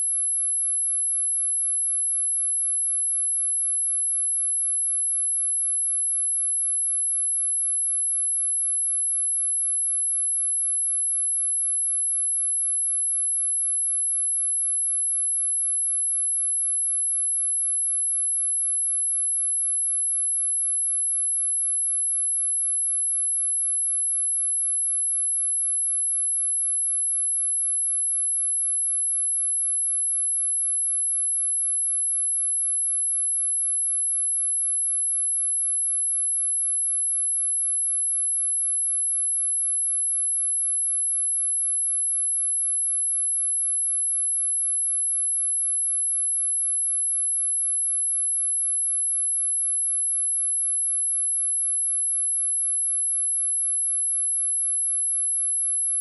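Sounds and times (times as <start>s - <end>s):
high sine-wave test tone: 0.0s - 56.0s.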